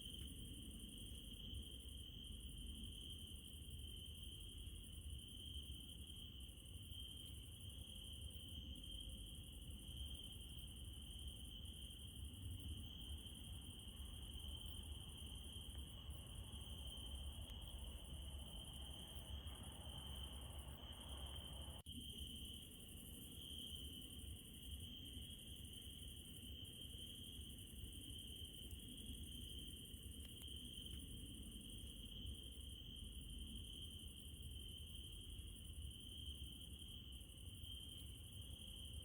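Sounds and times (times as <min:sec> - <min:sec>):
crickets trilling: 0:00.0 - 0:39.0.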